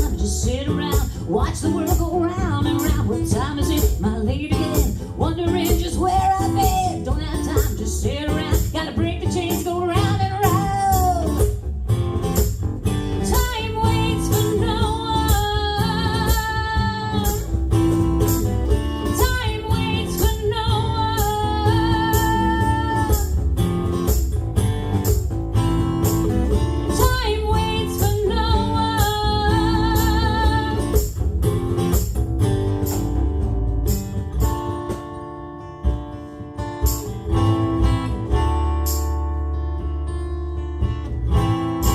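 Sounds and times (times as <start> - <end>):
live band playing: 0.0 - 39.5.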